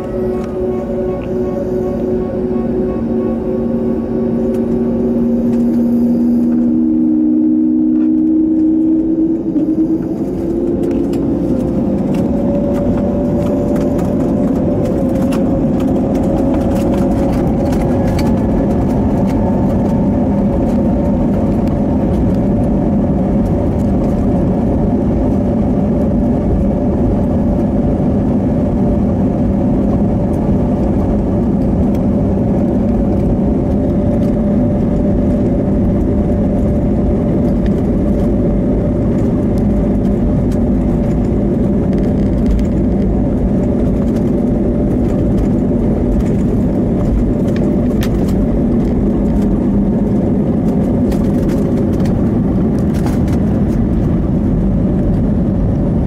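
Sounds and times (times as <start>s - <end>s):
dense engine rumble: 0.0s - 56.0s
jet engine whine: 0.0s - 56.0s.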